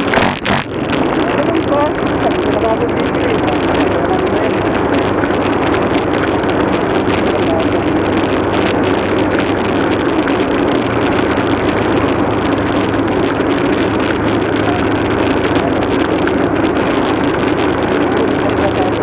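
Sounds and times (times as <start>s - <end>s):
motorcycle engine running: 0.0s - 19.0s
road noise: 0.0s - 19.0s.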